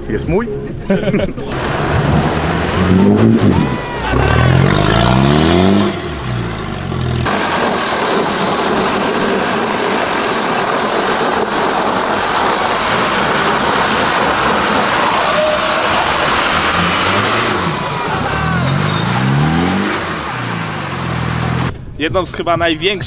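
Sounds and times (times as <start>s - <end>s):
engine revving hard: 1.5s - 21.7s
steady noisy rush: 1.5s - 21.7s.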